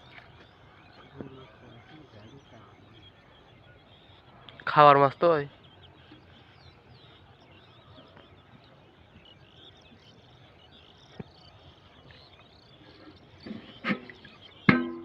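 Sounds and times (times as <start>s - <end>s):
high chirping calls: 0.0s - 15.0s.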